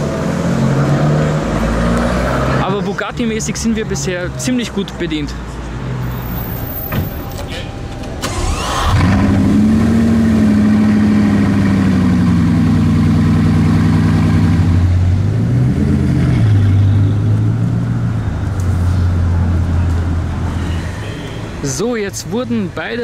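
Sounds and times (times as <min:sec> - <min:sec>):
car engine idling and revving: 0:00.0 - 0:20.8.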